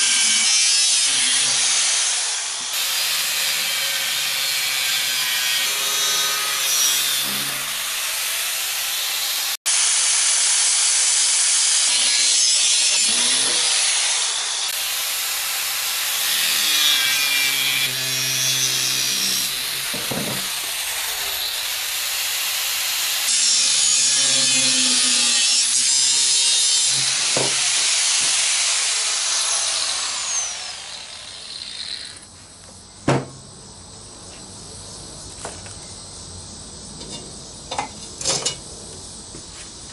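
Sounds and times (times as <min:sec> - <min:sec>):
angle grinder cutting steel: 0:00.0 - 0:32.2.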